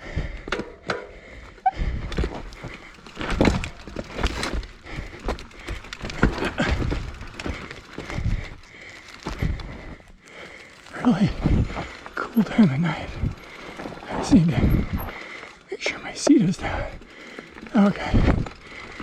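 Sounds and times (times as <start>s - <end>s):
mountain bike knocks and rattles: 0.3s - 15.2s, 16.4s - 19.0s.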